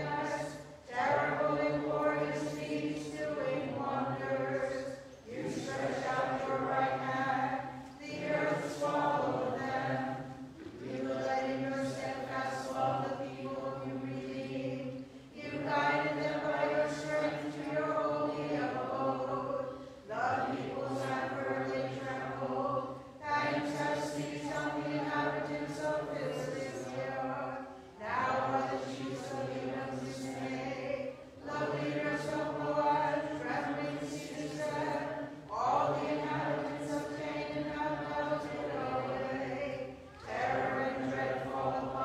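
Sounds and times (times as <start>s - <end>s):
unaccompanied liturgical chant: 0.0s - 42.0s.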